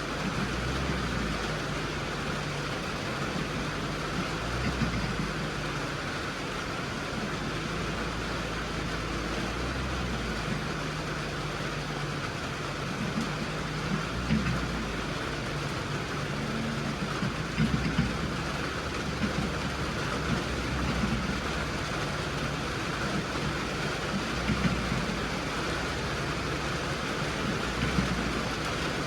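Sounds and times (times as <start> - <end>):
rain hissing: 0.0 - 29.0
vehicle engine running: 0.0 - 29.0.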